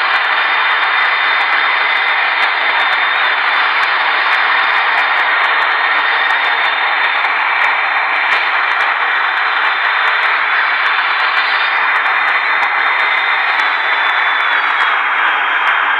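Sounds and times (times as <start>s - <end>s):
loud rushing noise: 0.0s - 15.9s.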